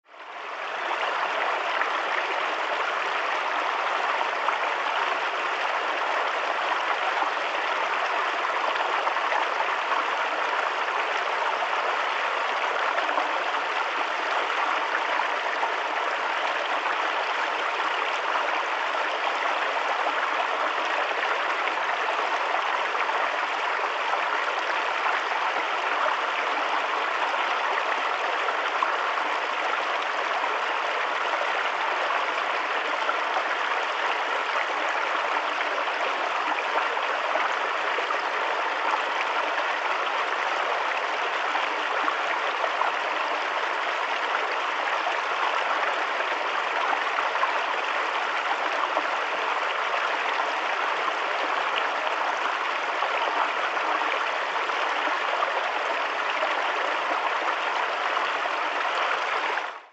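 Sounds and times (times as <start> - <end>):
stream rushing over stones: 0.1 - 59.9.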